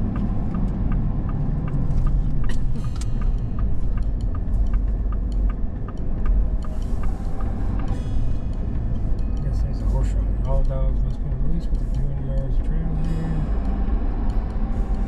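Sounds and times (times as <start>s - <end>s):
car road and engine noise: 0.0s - 15.0s
turn signal clicking: 0.0s - 15.0s.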